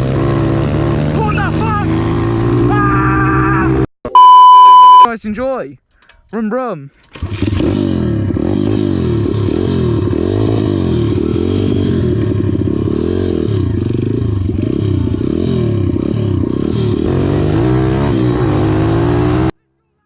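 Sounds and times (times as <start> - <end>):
motorbike engine revving: 0.0 - 3.8, 7.1 - 19.6.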